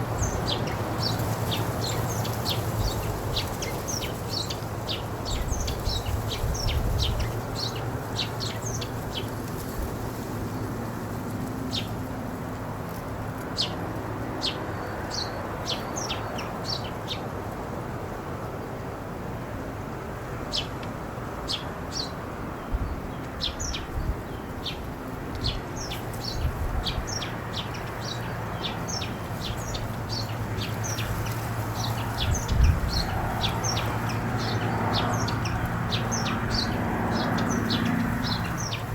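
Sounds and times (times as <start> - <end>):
small birds chirping: 0.0 - 12.2, 14.4 - 17.2, 21.5 - 38.9.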